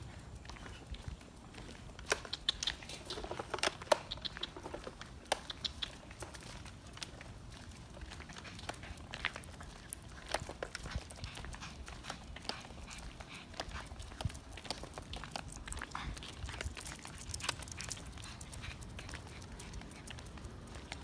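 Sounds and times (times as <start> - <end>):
footsteps on pavement: 0.0 - 21.0.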